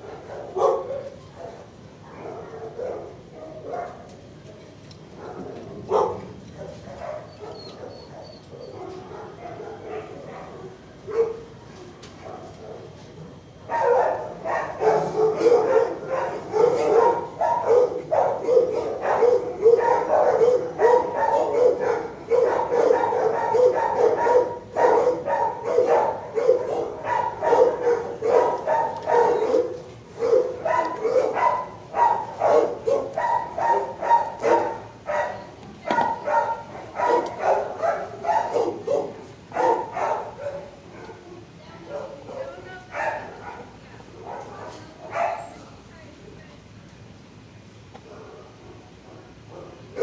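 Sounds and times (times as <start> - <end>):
dogs barking: 0.0 - 4.2, 5.1 - 11.6, 12.2 - 45.6, 48.0 - 50.0.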